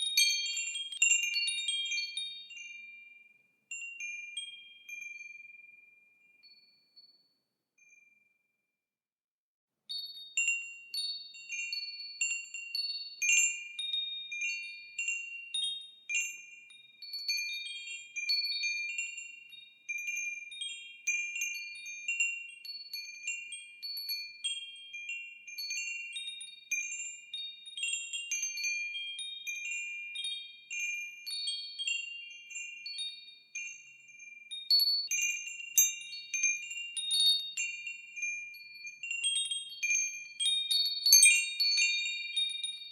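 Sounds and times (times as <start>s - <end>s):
wind chimes ringing: 0.0s - 6.6s, 9.9s - 42.9s.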